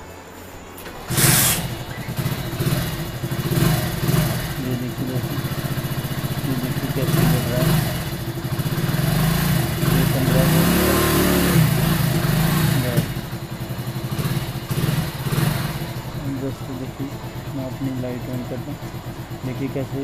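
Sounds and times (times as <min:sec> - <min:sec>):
motorcycle engine revving: 0:00.2 - 0:20.0.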